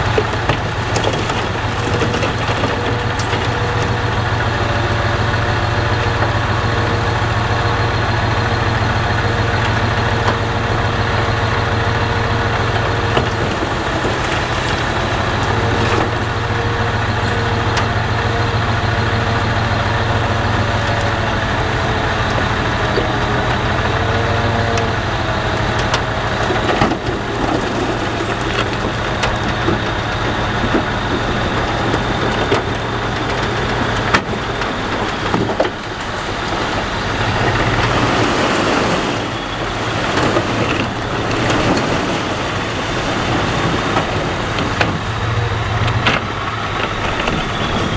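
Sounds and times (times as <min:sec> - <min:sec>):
heavy machine engine running: 0:00.0 - 0:47.9.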